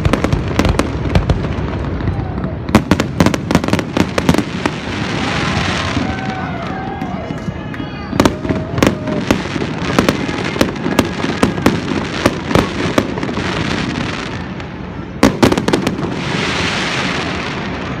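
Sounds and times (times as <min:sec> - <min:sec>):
firework bangs: 0:00.0 - 0:18.0
firework crackling hiss: 0:00.0 - 0:18.0.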